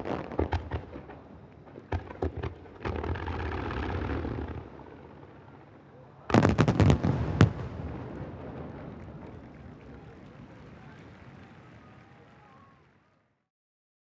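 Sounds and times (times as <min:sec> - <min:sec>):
rolling echo: 0:00.0 - 0:12.9
crackling rumble: 0:00.0 - 0:13.0.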